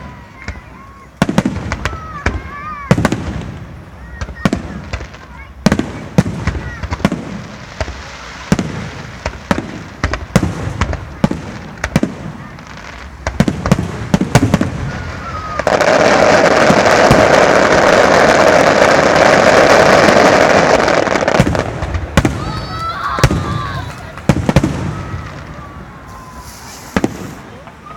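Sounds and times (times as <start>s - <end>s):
dense firework crackling: 0.0s - 27.9s
fireworks bursting with sharp bangs: 0.0s - 27.9s.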